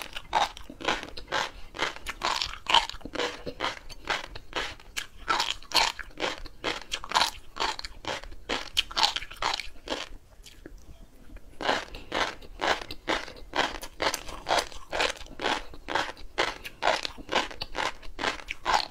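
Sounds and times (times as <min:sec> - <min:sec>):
fish roe crunching while chewing: 0:00.0 - 0:10.6, 0:11.6 - 0:18.9.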